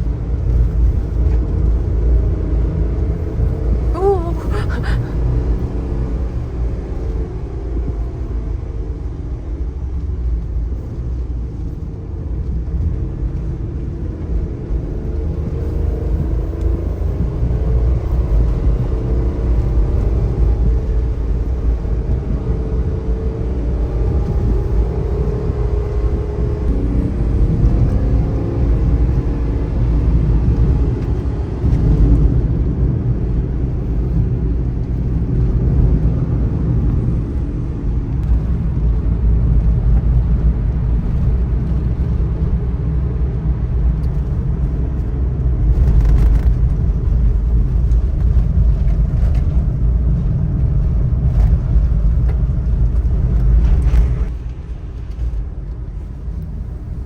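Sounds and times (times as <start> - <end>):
small truck engine and tyres rumbling: 0.0 - 57.0.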